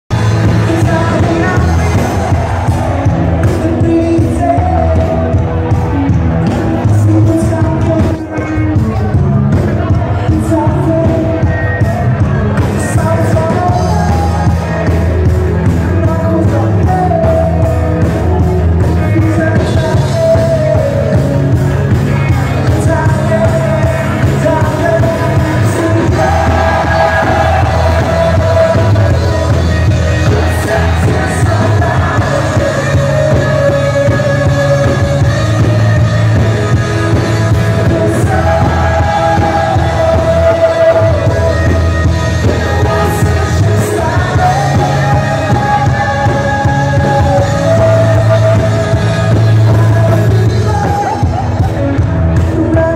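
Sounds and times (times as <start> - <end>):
lead singer: 0.1 - 52.9
live pop-rock band: 0.1 - 52.9.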